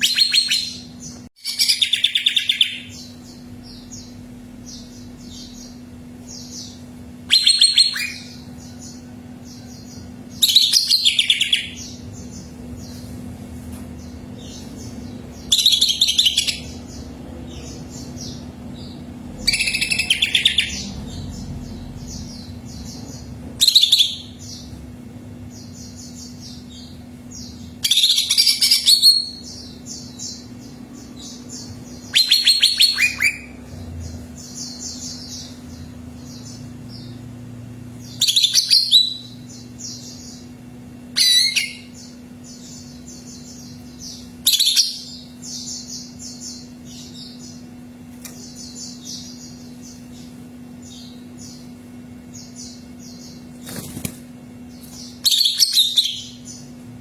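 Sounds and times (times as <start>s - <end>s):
high bird twittering: 0.0s - 12.5s, 14.4s - 24.8s, 25.6s - 37.2s, 38.0s - 47.6s, 54.8s - 56.7s
bird song phrases: 0.0s - 57.0s
low steady hum: 0.0s - 57.0s.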